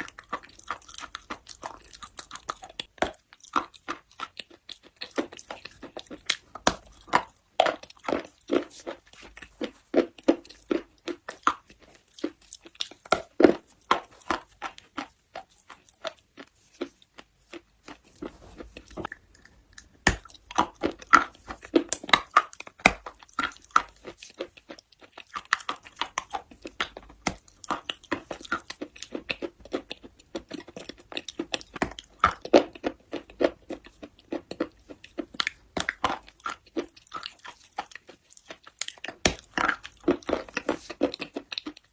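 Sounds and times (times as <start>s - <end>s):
chewing brittle stone crunches: 0.0s - 41.9s.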